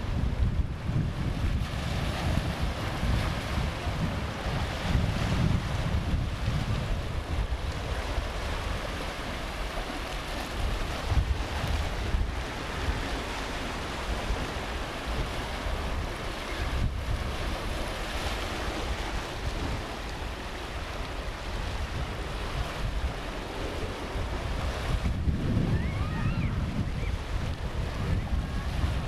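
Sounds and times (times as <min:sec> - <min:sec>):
small waves washing on shore: 0:00.0 - 0:29.0
wind rumbling on microphone: 0:00.0 - 0:29.0.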